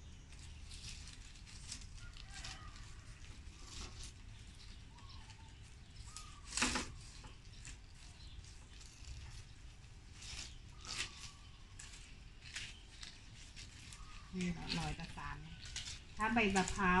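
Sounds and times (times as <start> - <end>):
leaf strips rustling: 0.0 - 17.0.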